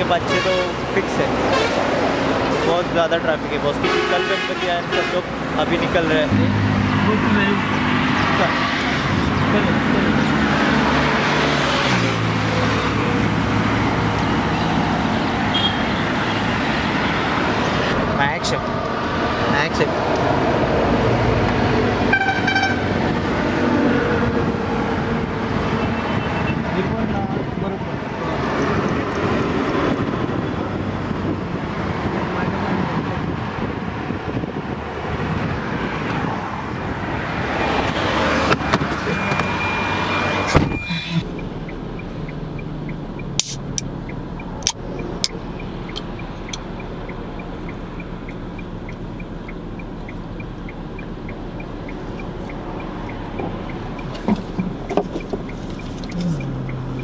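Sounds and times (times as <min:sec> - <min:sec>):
road and traffic noise: 0:00.0 - 0:57.0.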